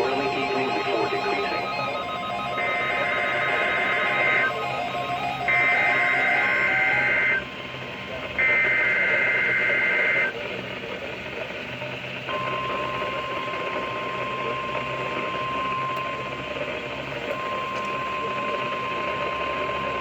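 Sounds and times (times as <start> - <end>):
steady pure alarm tone: 0.0 - 10.5, 12.3 - 20.0
receiver hiss: 0.0 - 20.0.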